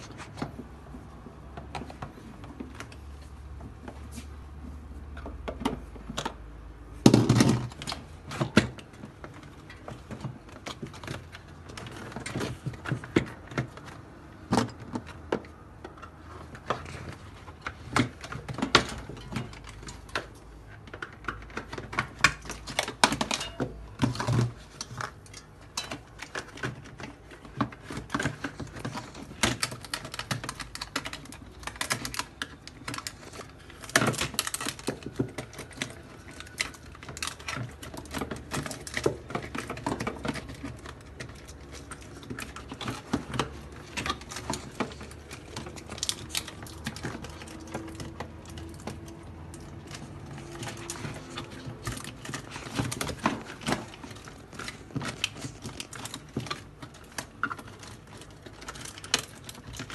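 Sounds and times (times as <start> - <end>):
plastic clatter: 0.0 - 4.4, 5.1 - 59.9.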